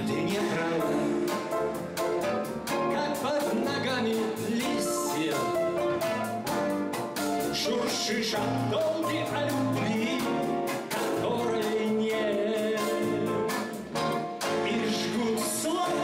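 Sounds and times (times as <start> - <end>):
man singing: 0.0 - 1.6, 2.8 - 6.3, 7.4 - 13.7, 14.4 - 16.0
acoustic guitar: 0.0 - 16.0
piano: 0.0 - 16.0.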